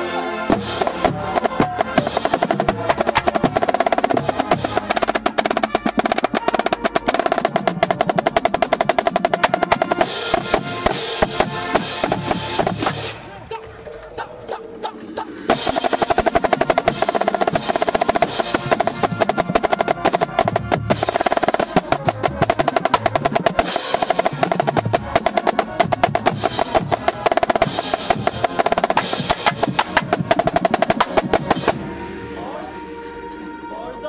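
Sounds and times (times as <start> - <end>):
marching snare drum rolls: 0.5 - 14.2, 15.4 - 32.0.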